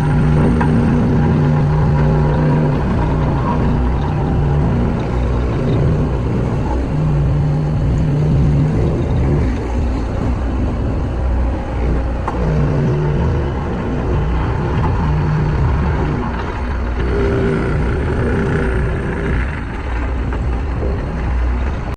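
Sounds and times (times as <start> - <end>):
heavy diesel engines rumbling: 0.0 - 21.9
low engine tone: 0.0 - 21.9.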